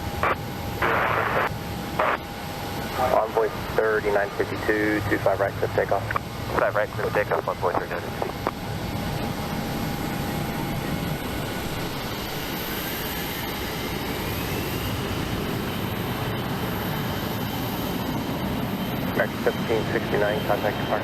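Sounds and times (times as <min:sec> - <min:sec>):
jet engine roar: 0:00.0 - 0:21.0
rising jet engine whine: 0:00.0 - 0:21.0.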